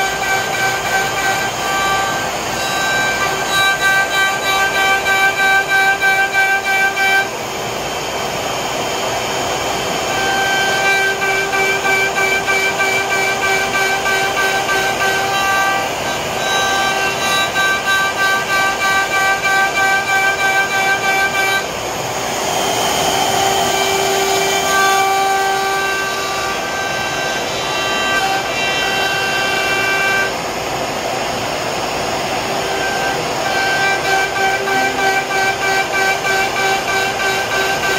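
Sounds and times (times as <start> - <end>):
router cutting wood: 0.0 - 37.9
router spindle high whine: 0.0 - 37.9.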